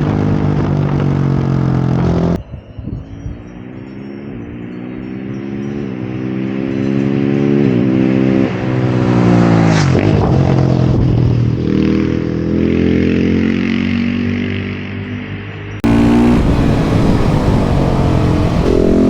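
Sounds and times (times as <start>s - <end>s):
motorcycle engine accelerating: 0.0s - 2.4s, 3.3s - 19.0s.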